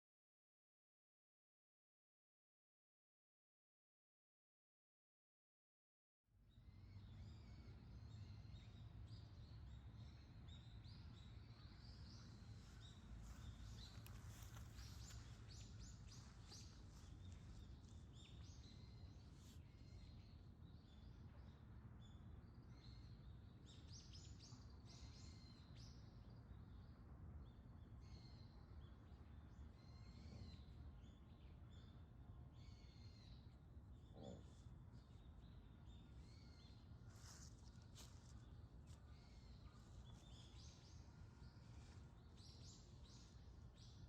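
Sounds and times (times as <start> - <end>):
small birds chirping: 6.7 - 27.0, 28.0 - 44.0.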